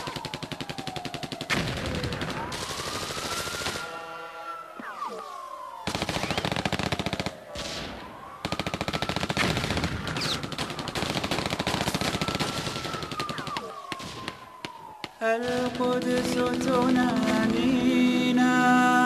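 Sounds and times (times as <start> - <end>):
machine-gun fire: 0.0 - 3.8, 5.8 - 14.7, 15.4 - 18.4
wailing siren-like tone: 0.0 - 9.3, 10.2 - 19.0.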